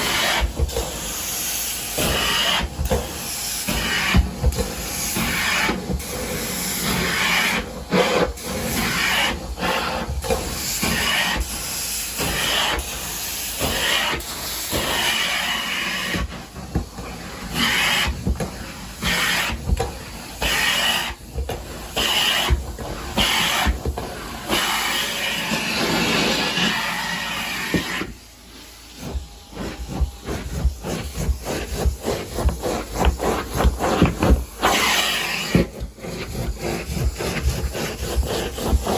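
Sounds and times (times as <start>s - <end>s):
carpet cleaner wand hissing and suction: 0.0s - 38.9s.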